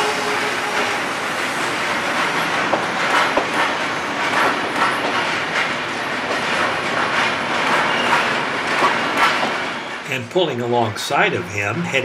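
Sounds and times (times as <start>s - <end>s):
steel wheels rumbling on rail: 0.0s - 10.1s.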